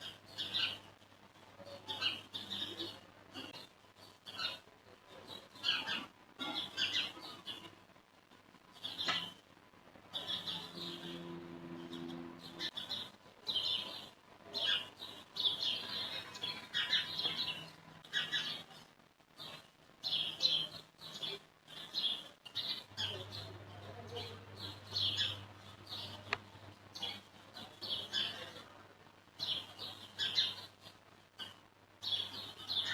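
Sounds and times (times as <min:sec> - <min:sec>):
birds chirping: 0:00.0 - 0:00.9, 0:01.6 - 0:07.7, 0:08.7 - 0:09.4, 0:10.1 - 0:32.9.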